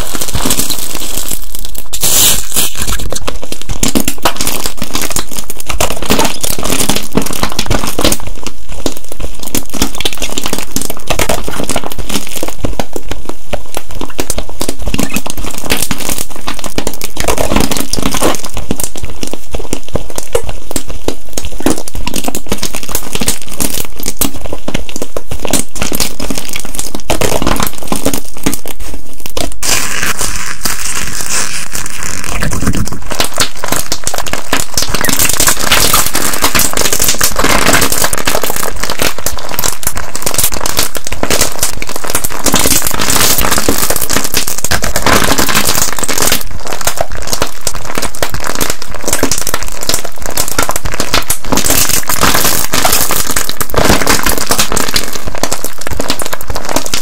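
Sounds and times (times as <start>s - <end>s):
slime crackling and popping: 0.0s - 57.0s.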